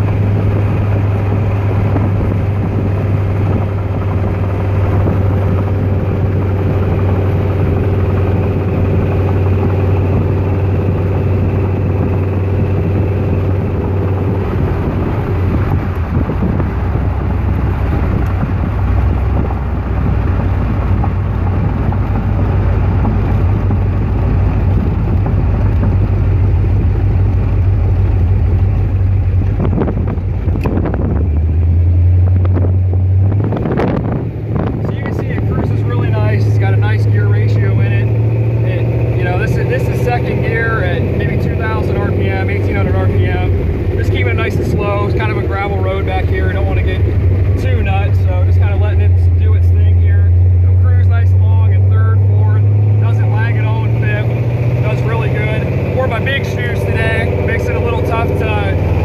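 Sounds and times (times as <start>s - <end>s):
car engine running: 0.0s - 59.0s
wind and road noise: 0.0s - 59.0s.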